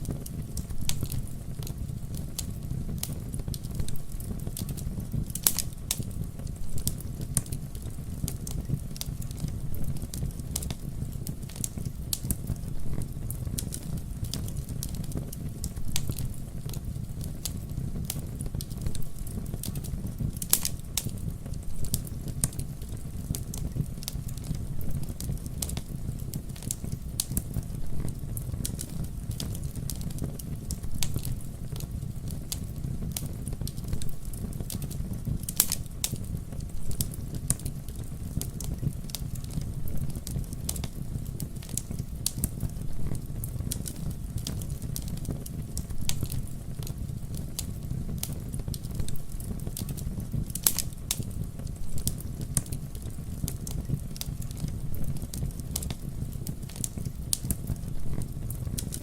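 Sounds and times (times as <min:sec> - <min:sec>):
burning wood crackling and popping: 0:00.0 - 0:59.0
campfire flames rumbling: 0:00.0 - 0:59.0.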